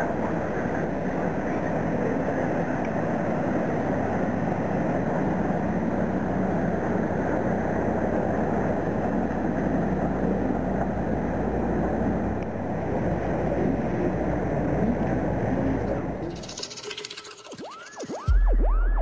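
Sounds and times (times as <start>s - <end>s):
low engine drone: 0.0s - 19.0s
rumble of background noise: 0.0s - 19.0s.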